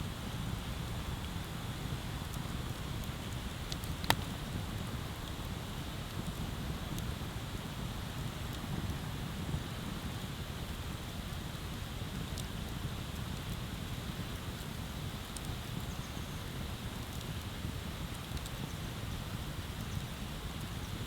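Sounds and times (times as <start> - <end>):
faint fire crackles and pops: 0.0 - 21.0.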